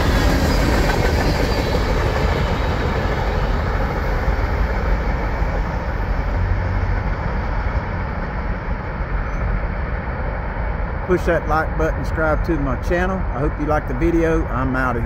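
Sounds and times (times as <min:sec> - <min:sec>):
freight train rumble: 0:00.0 - 0:15.0
train wheel noise: 0:00.0 - 0:15.0.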